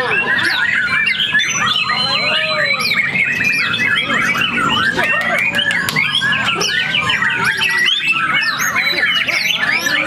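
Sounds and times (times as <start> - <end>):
birds singing chorus: 0.0 - 10.0
fast rattling bird trill: 0.0 - 10.0.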